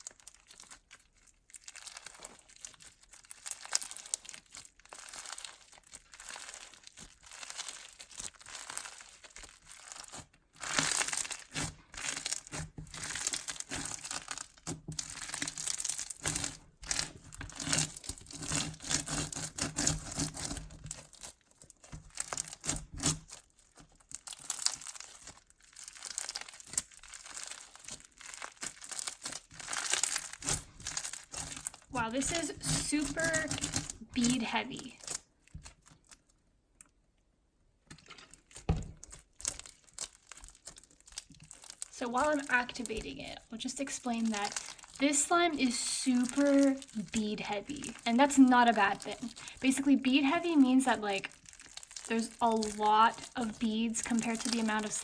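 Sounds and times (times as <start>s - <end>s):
crunchy slime crackling: 0.0s - 37.0s, 37.9s - 55.0s.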